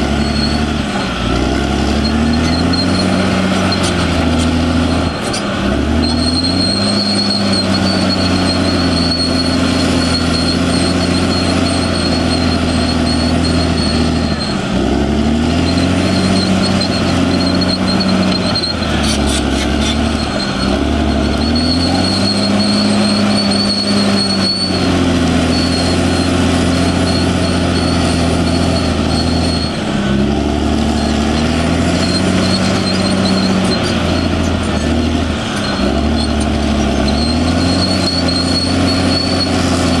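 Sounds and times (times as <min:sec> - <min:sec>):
bulldozer diesel engine under load: 0:00.0 - 0:40.0.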